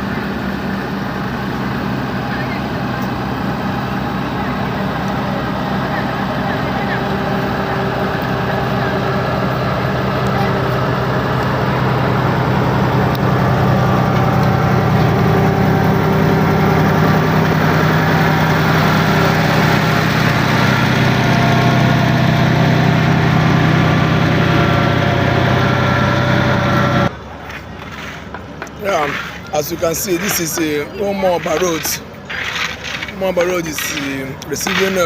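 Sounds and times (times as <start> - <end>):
construction machinery engine humming: 0.0 - 35.0.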